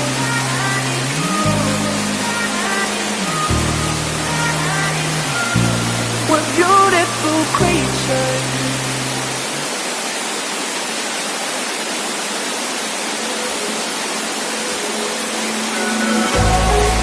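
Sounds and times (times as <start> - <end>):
waterfall roar: 0.0 - 17.0.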